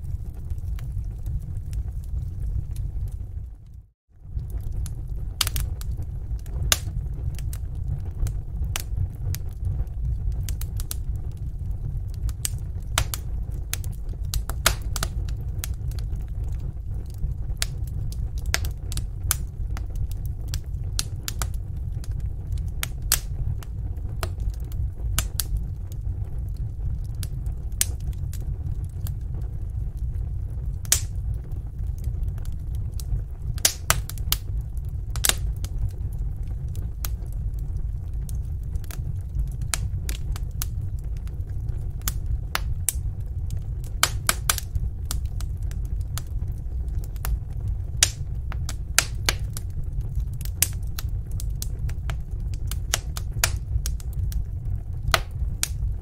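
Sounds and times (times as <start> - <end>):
fire burning in fireplace: 0.0 - 56.0
fire crackles and pops: 0.0 - 56.0.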